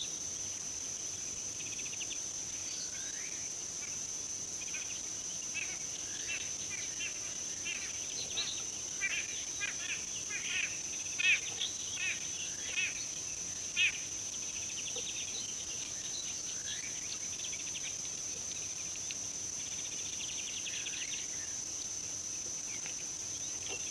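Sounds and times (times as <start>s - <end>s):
insect drone: 0.0s - 23.9s.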